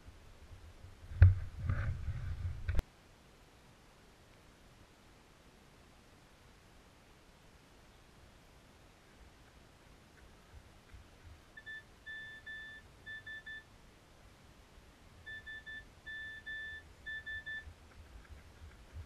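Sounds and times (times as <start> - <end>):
faint low rumble: 0.0 - 19.0.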